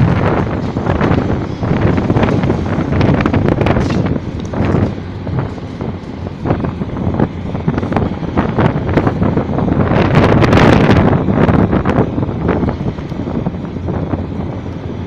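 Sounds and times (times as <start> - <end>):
excavator diesel engine running: 0.0 - 15.0
wind buffeting microphone: 0.0 - 15.0.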